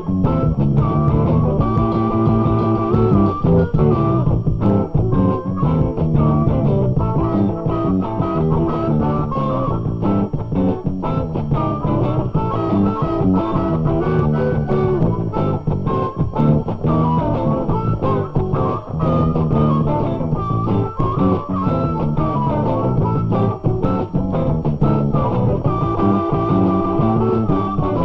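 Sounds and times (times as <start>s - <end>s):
rock music with guitar: 0.0s - 28.0s.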